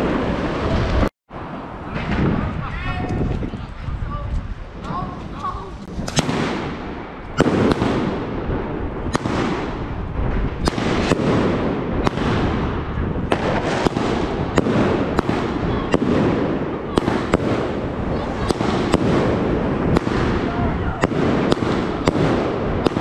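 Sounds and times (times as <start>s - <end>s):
fireworks banging: 0.0s - 3.6s, 4.6s - 23.0s
fireworks crackling: 0.0s - 23.0s.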